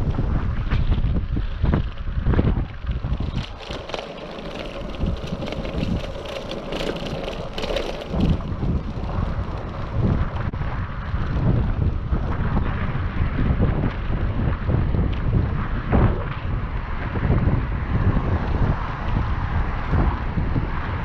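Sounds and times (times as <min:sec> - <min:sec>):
bicycle clicks and rattles: 0:00.0 - 0:17.6
wind buffeting microphone: 0:00.0 - 0:21.0.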